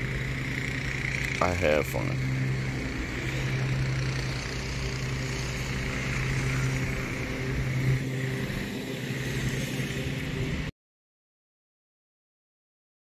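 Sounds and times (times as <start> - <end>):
engine humming with hiss: 0.0 - 10.7.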